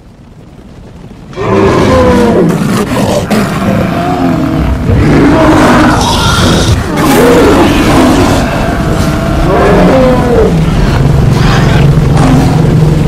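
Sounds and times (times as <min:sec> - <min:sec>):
low rumble: 0:00.0 - 0:13.0
animal roars and screeches: 0:01.3 - 0:13.0.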